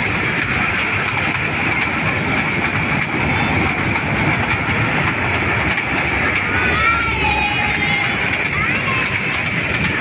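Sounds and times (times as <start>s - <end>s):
toy train rumbling on track: 0.0s - 10.0s.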